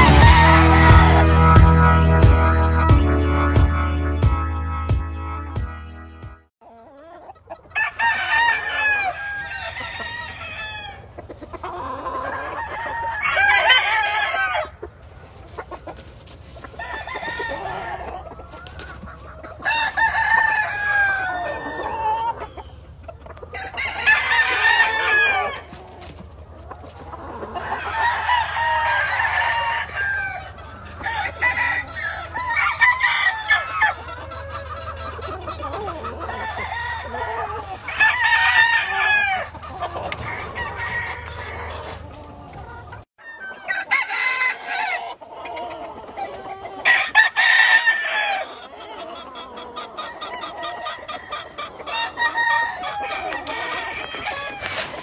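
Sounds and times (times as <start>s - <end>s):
roosters crowing: 0.0s - 2.3s, 6.6s - 55.0s
chickens clucking: 0.0s - 4.3s, 6.6s - 55.0s.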